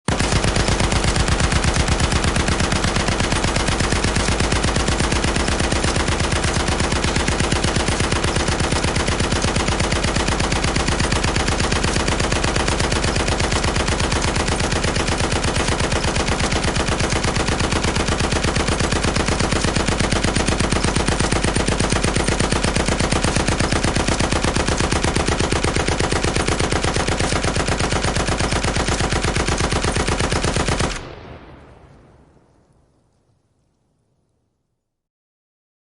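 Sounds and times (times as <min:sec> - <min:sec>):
machine gun automatic fire: 0:00.1 - 0:32.0.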